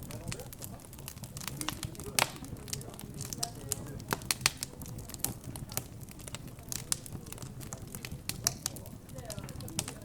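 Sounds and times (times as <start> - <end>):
murmur of background chatter: 0.0 - 10.0
wood fire crackling: 0.0 - 10.0.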